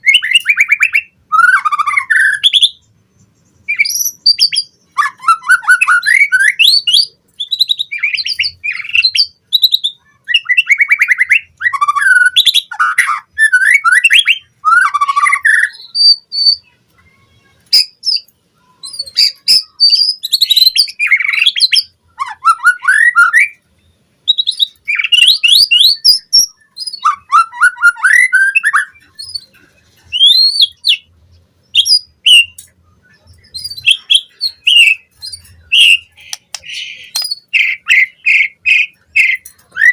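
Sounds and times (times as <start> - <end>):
bird singing whistles and trills: 0.0 - 2.9, 3.5 - 16.8, 17.7 - 23.6, 24.2 - 39.9.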